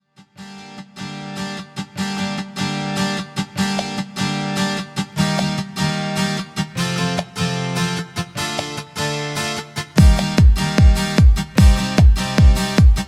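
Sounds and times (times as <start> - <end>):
strummed guitar chords: 0.3 - 13.0.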